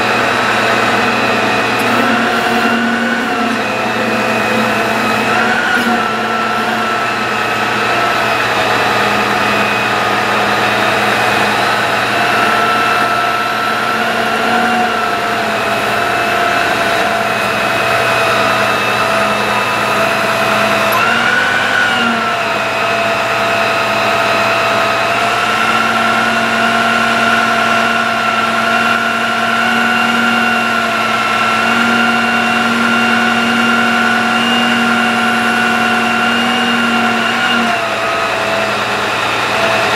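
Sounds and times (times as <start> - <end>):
hydraulic pump whine: 0.0 - 39.9
truck engine running: 0.0 - 39.9.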